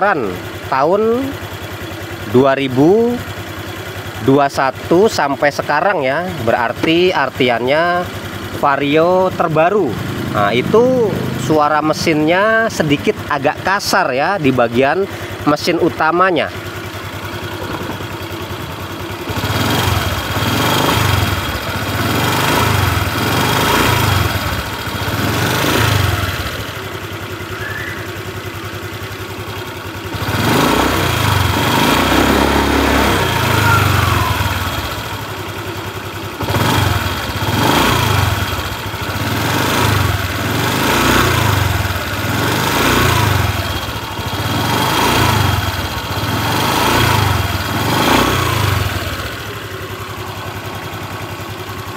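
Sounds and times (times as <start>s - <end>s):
faint engine ticking: 0.0s - 51.9s
scooter engine revving: 0.0s - 51.9s.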